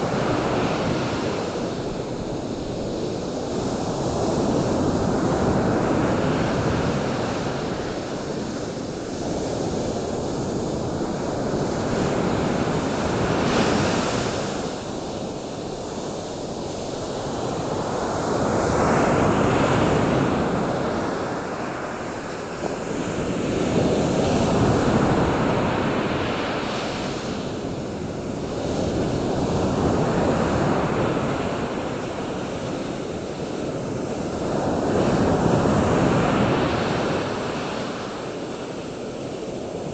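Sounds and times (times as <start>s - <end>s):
continuous rushing noise: 0.0s - 39.9s.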